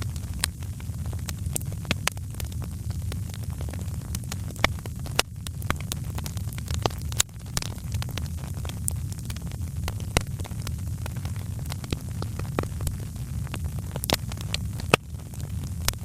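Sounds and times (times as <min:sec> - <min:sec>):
low rumble of flames: 0:00.0 - 0:16.0
wood fire popping: 0:00.0 - 0:16.0.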